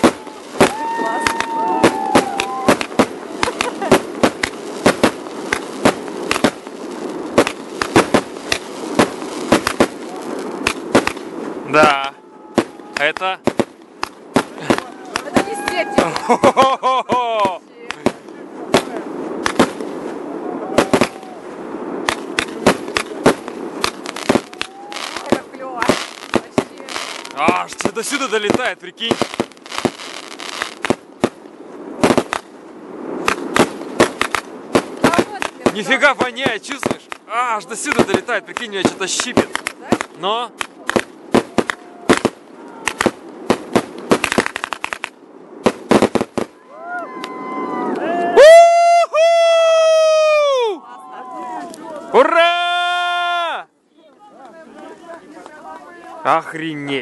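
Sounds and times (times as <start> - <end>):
fireworks banging and cracking: 0.0 - 46.6
steady crackling: 0.0 - 46.6.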